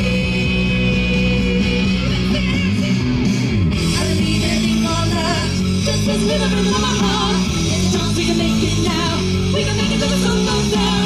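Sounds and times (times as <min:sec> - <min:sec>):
instrumental guitar music on loudspeakers: 0:00.0 - 0:11.0.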